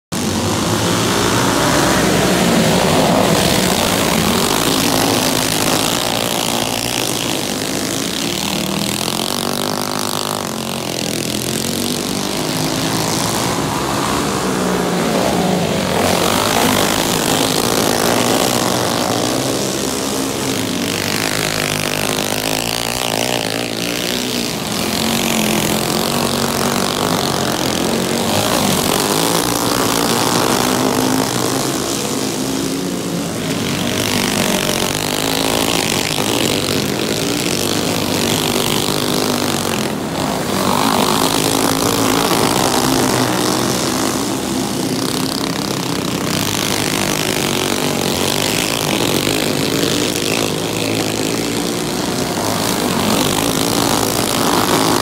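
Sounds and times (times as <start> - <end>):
go-kart engines racing: 0.0 - 55.0.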